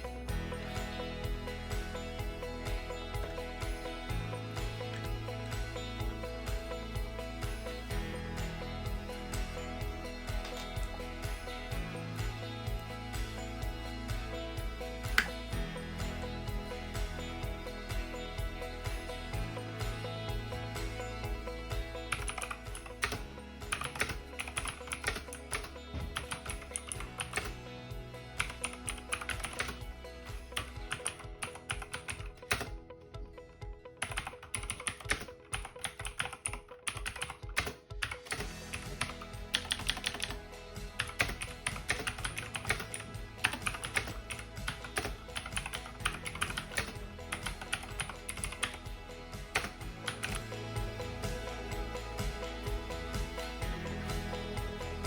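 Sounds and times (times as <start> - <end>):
background music: 0.0 - 55.0.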